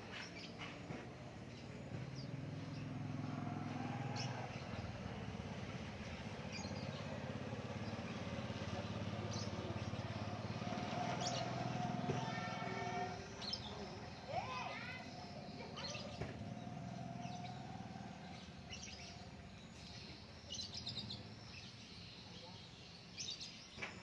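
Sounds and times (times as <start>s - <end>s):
motor engine running: 0.0s - 21.8s
birds chirping: 0.0s - 24.0s.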